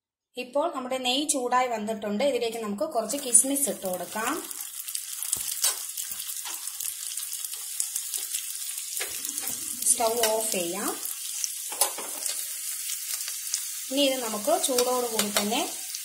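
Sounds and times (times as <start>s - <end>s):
raisins sizzling in hot fat: 2.9s - 16.0s.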